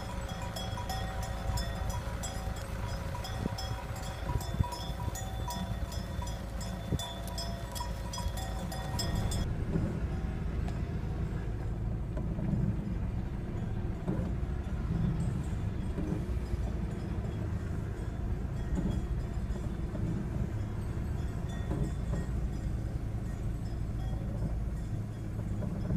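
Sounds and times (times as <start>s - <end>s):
sheep bells clinking: 0.0s - 9.5s, 12.7s - 25.9s
car rumbling slowly: 0.0s - 25.9s.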